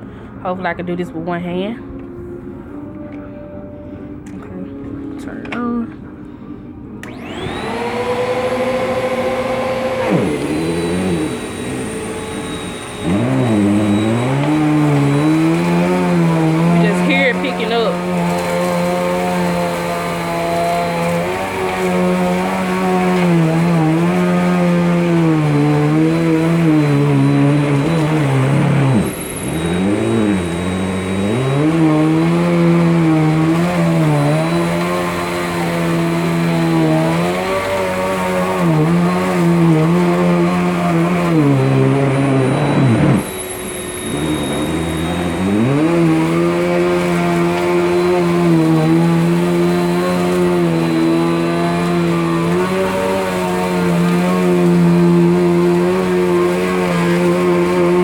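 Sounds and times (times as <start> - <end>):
vacuum cleaner running on rug: 7.0 - 58.0.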